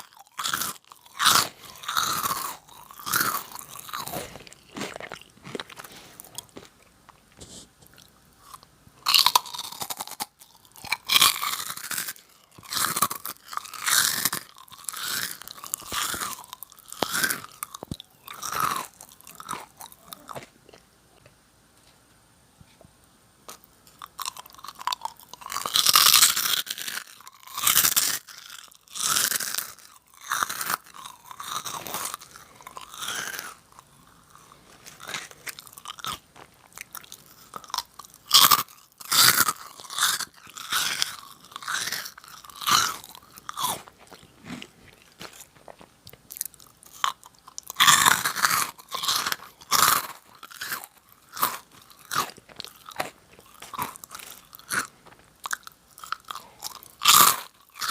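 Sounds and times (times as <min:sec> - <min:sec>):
crunching crisp snack: 0:00.0 - 0:22.0, 0:23.5 - 0:57.9
soft chewing: 0:00.0 - 0:57.9.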